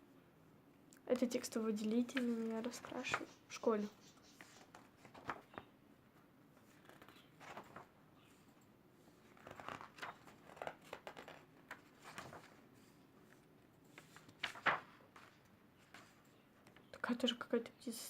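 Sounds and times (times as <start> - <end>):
paper pages rustling: 1.2 - 5.7, 6.5 - 16.9.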